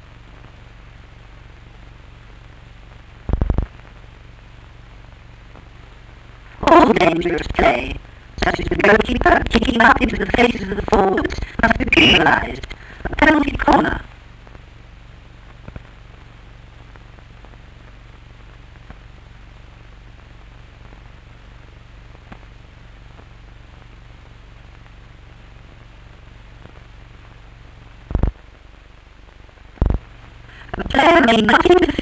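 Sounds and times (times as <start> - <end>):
faint crackles: 0.0 - 32.0
film soundtrack hiss and hum: 0.0 - 32.0.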